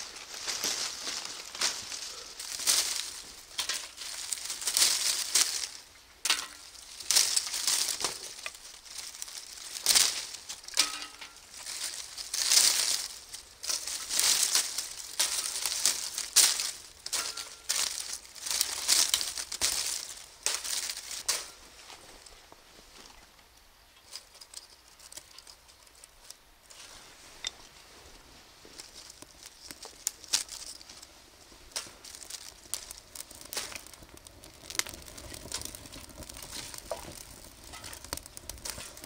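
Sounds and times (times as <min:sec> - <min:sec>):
dry leaves crunching: 0:00.0 - 0:23.0, 0:25.0 - 0:39.0.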